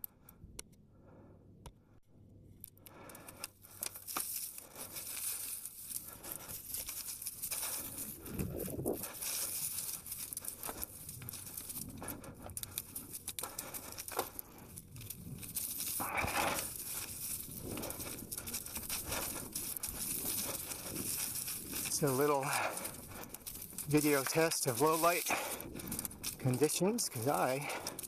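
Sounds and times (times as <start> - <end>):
bicycle tyres crunching on trail: 2.9 - 28.0.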